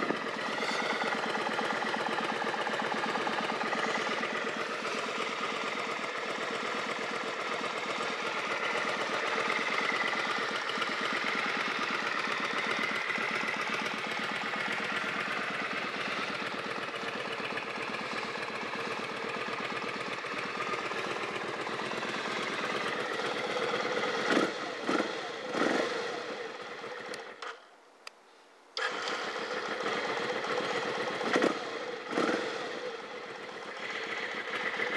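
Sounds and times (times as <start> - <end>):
motorcycle engine idling: 0.0 - 27.6, 28.8 - 34.9.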